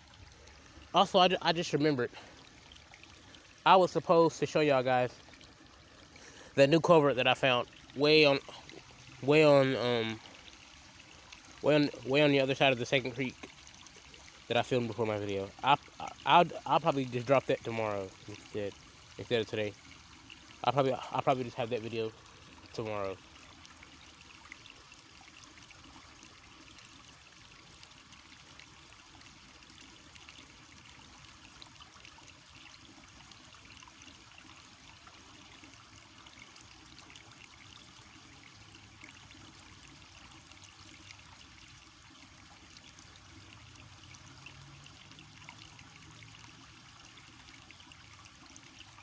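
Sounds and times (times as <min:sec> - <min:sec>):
creek water trickling: 0:00.0 - 0:49.0.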